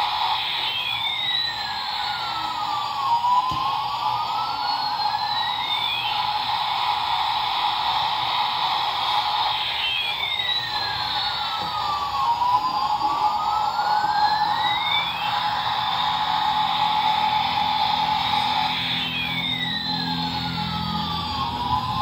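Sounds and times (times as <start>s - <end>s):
toy electronic siren wailing: 0.0s - 22.0s
toy motor and rotors whirring: 0.0s - 22.0s.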